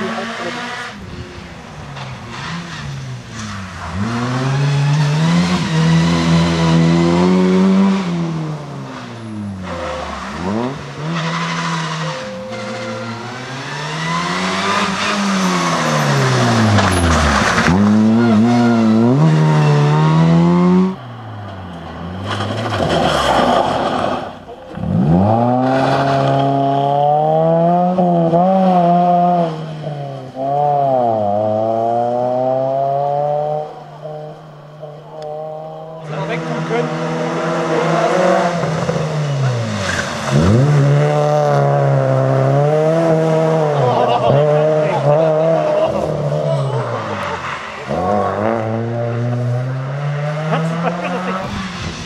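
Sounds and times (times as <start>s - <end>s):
rally car engines at full throttle: 0.0s - 52.0s.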